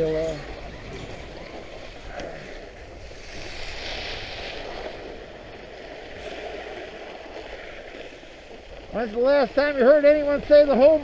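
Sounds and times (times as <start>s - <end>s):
ski blades scraping on snow: 0.1s - 11.0s.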